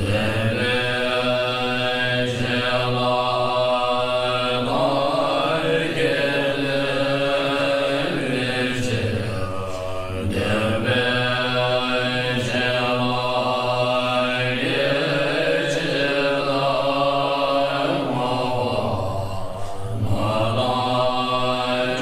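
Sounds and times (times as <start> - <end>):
low male voices chanting: 0.0 - 22.0.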